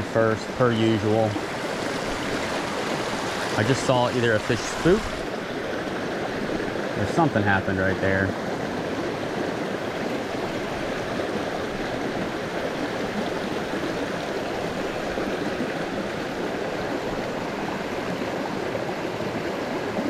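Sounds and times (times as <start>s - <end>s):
creek water rushing over stones: 0.0s - 20.0s.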